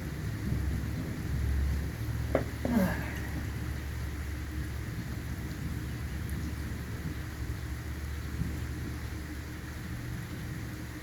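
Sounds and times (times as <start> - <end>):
low constant rumble: 0.0 - 11.0
rain hiss: 0.0 - 11.0.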